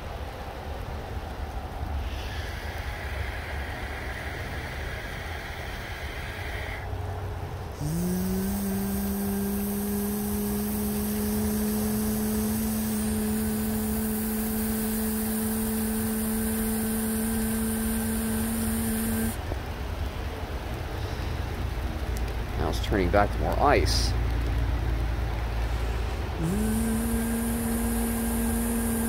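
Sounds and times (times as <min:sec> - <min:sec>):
rain and sleet falling: 0:00.0 - 0:08.2, 0:08.8 - 0:18.3, 0:19.3 - 0:26.4
machine hum: 0:00.0 - 0:29.0.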